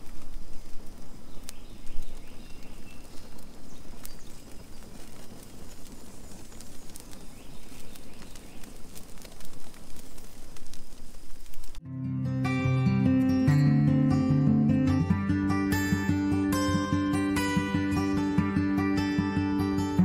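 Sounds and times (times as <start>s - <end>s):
brush fire crackling and popping: 0.0s - 20.0s.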